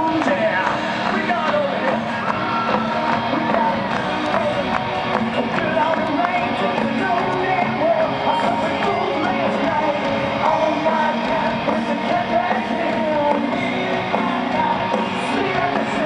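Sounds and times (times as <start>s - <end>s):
hard rock band playing live: 0.0s - 16.0s
man singing: 0.0s - 16.0s.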